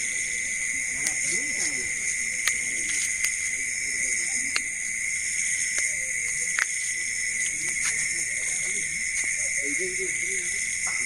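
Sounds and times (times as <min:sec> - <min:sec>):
distant voices murmuring: 0:00.0 - 0:11.0
insects shrill drone: 0:00.0 - 0:11.0.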